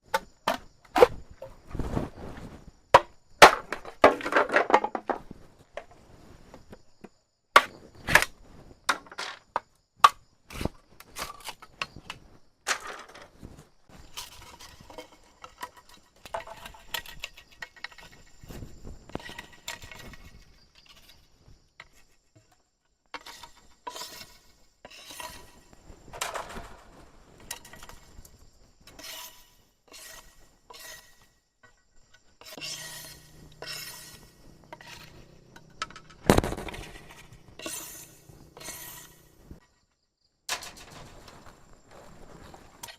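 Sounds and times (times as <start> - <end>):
hard objects scraping and rustling: 0.1 - 9.7, 10.5 - 39.7, 40.6 - 42.9.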